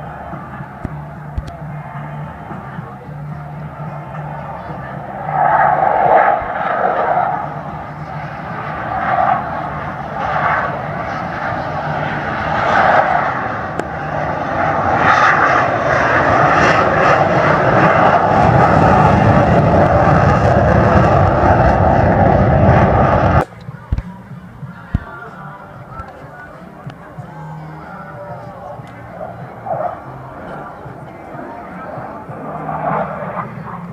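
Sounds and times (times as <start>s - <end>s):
jet aircraft flying past: 0.0s - 33.9s.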